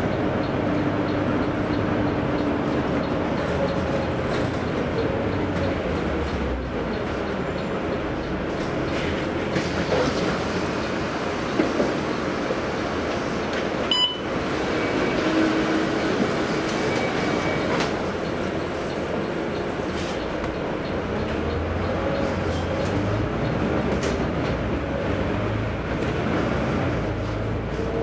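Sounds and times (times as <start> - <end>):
bus diesel engine rumble: 0.0 - 28.0
road noise: 0.0 - 28.0.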